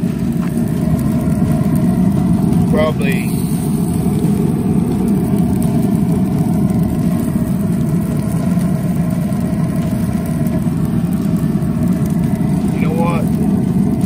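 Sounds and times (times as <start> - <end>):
grill fan humming: 0.0 - 14.0.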